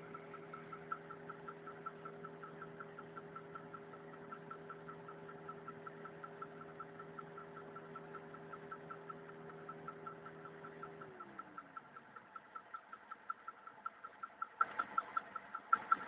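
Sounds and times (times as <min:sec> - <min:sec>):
engine knocking: 0:00.0 - 0:16.0
steady low hum: 0:00.0 - 0:16.0.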